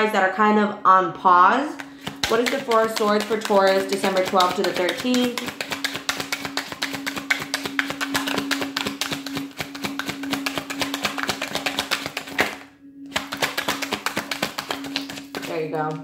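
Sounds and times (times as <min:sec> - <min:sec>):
steady low hum: 0:00.7 - 0:16.0
cards being shuffled: 0:01.8 - 0:16.0.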